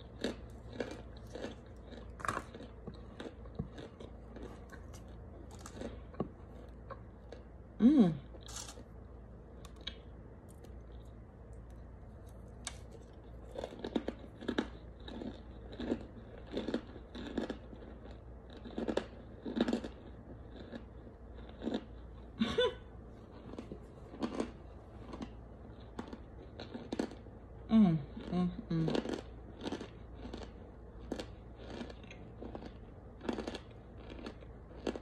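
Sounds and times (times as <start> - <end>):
crunchy chewing: 0.0 - 7.5, 8.3 - 22.3, 23.2 - 27.3, 28.8 - 35.0.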